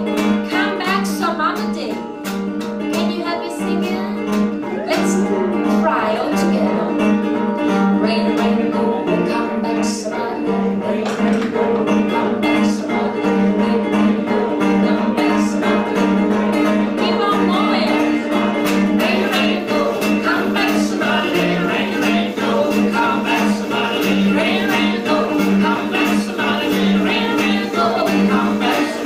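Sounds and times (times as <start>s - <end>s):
woman singing: 0.0s - 2.1s, 2.9s - 7.2s, 7.9s - 18.2s, 19.0s - 29.0s
acoustic guitar strumming: 0.0s - 29.0s.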